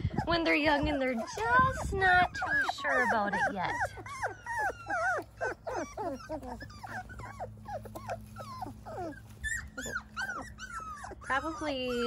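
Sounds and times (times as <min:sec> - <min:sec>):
puppies whimpering and squealing: 0:00.0 - 0:12.0.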